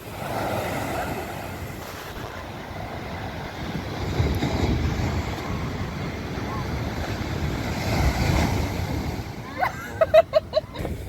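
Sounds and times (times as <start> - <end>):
steady rushing noise: 0.0 - 11.0
wind buffeting microphone: 0.0 - 11.0.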